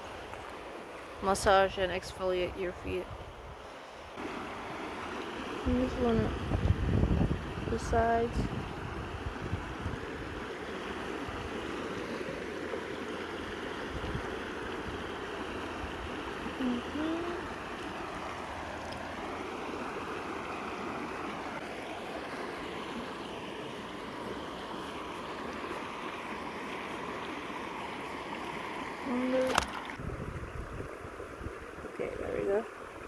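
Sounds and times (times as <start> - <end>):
stream water flowing: 0.0 - 33.0.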